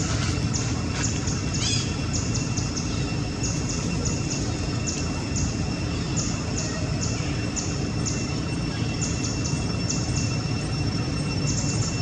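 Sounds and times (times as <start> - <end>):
faint high whine: 0.0 - 12.0
steady low rumble: 0.0 - 12.0.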